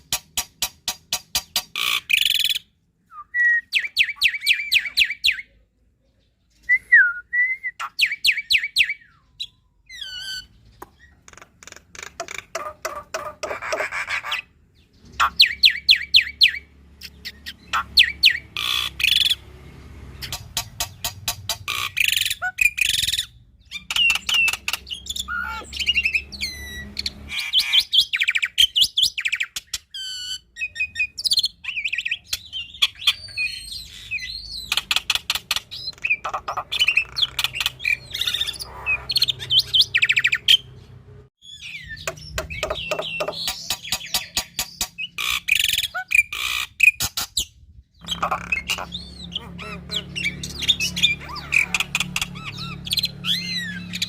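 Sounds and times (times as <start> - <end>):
bird singing with clicks and whistles: 0.0 - 5.6, 6.4 - 19.5, 20.2 - 54.0.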